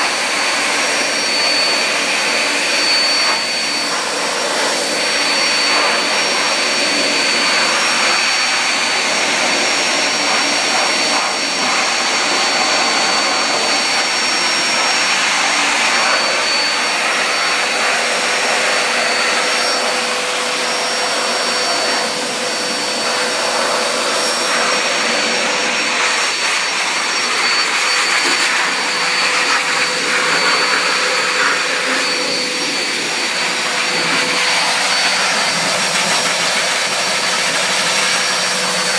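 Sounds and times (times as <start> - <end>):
blow dryer running: 0.0 - 38.9.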